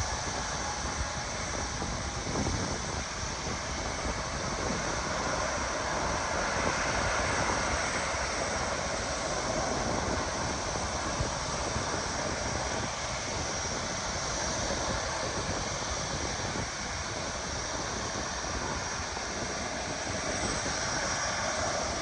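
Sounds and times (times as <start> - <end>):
jet engines rushing: 0.0 - 22.0
wind buffeting microphone: 0.0 - 22.0.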